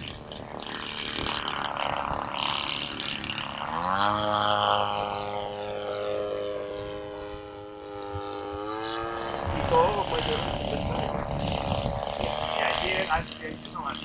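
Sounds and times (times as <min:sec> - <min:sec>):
model plane propeller drone: 0:00.0 - 0:14.0.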